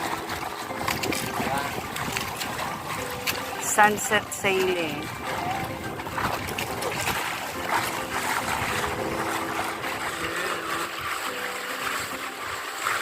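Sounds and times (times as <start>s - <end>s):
water rushing along boat hull: 0.0s - 13.0s.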